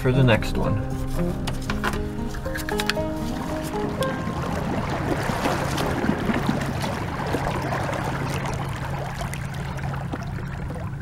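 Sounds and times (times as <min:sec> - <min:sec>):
steady low hum: 0:00.0 - 0:11.0
water splashing against boat hull: 0:01.3 - 0:11.0.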